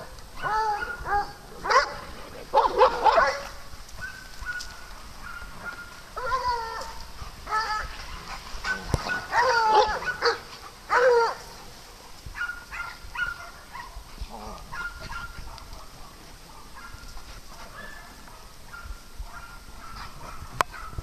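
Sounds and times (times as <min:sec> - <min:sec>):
dogs barking and yipping: 0:00.0 - 0:21.0.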